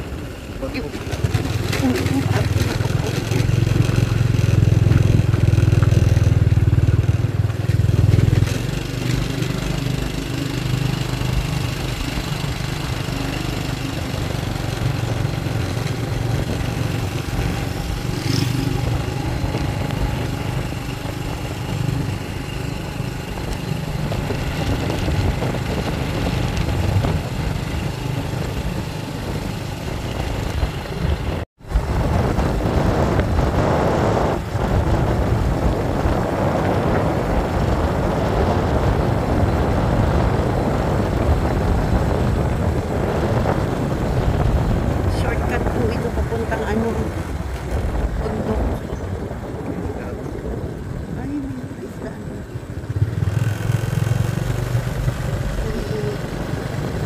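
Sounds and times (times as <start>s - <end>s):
motorcycle riding: 0.0s - 57.0s.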